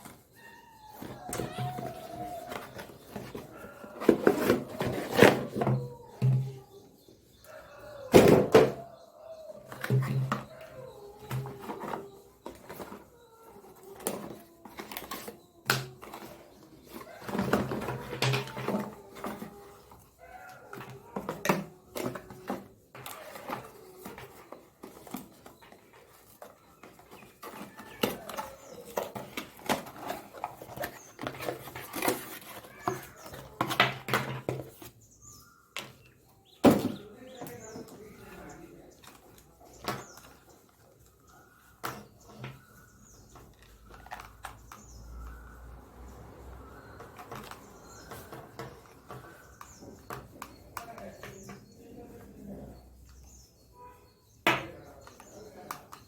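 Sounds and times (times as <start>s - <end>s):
packaging clicks and rustles: 0.0s - 53.2s
faint squeaky tones: 0.0s - 55.7s.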